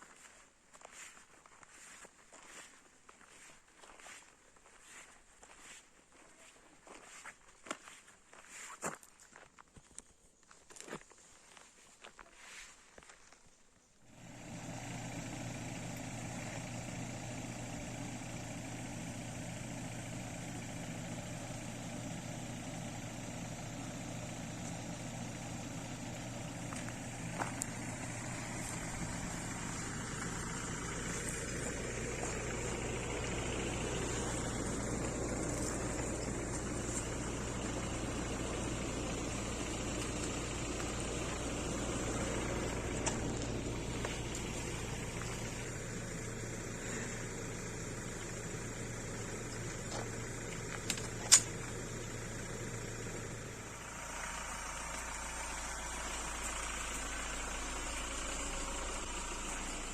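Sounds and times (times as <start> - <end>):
vehicle engine idling: 0.0 - 8.5, 13.8 - 59.9.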